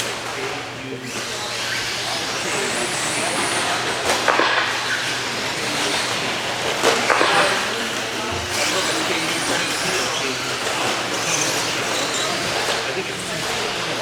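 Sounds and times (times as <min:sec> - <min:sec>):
model trucks motors hissing: 0:00.9 - 0:14.0.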